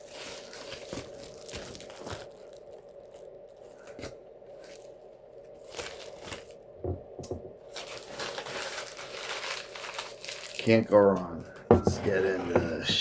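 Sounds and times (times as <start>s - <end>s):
wrapping paper crinkling and tearing: 0.0s - 6.7s, 7.6s - 11.4s
faint steady hum: 0.0s - 13.0s.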